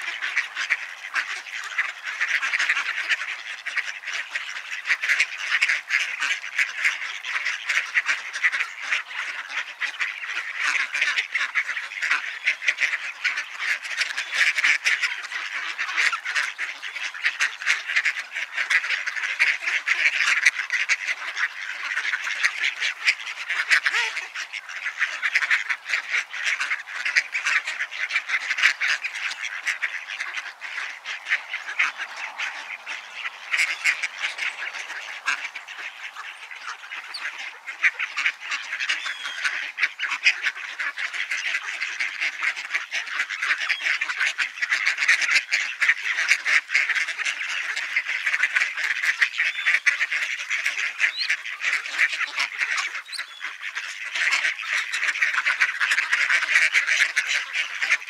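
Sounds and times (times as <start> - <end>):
flock of ducks quacking: 0.0 - 58.0.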